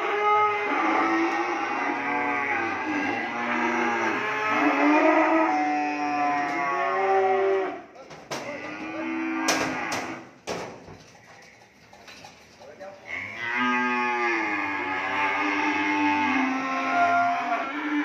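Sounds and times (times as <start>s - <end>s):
cattle mooing: 0.0s - 10.3s, 13.0s - 18.0s.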